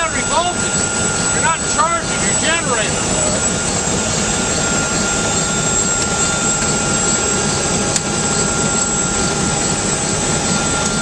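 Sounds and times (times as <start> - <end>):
helicopter turbine engine whining: 0.0 - 11.0.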